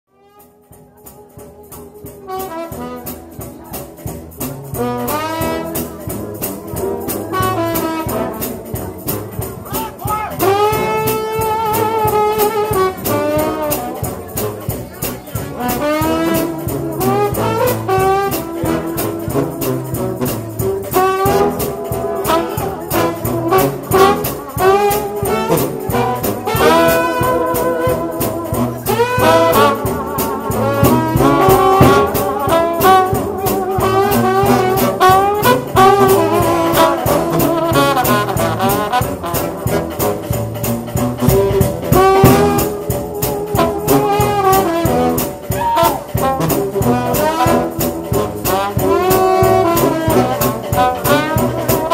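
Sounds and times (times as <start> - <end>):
trombone-led brass ensemble: 0.1 - 51.9
percussion beat: 0.4 - 51.9.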